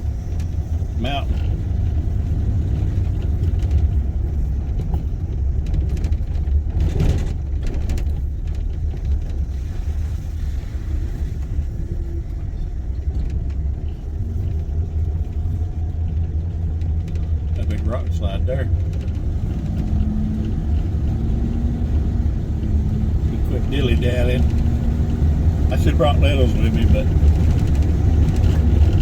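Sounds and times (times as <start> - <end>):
car road noise rumble: 0.0 - 29.0.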